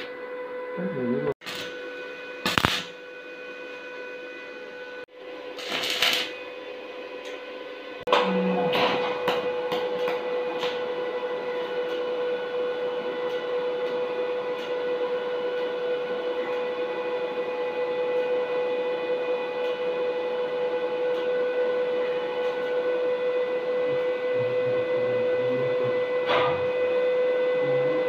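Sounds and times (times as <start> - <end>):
welding arc whine and hiss: 0.0 - 28.0.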